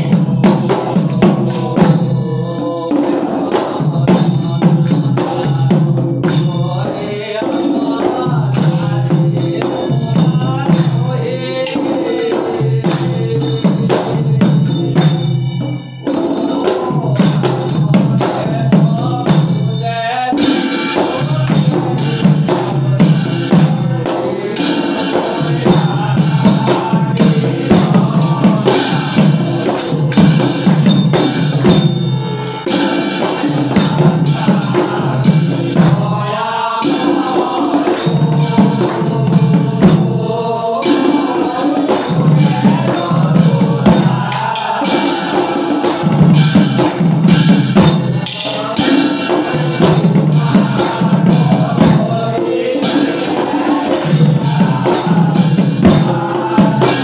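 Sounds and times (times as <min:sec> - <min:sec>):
drums beaten with sticks: 0:00.0 - 0:57.0
hand cymbals clashing: 0:00.0 - 0:57.0
men singing a chant: 0:00.0 - 0:57.0.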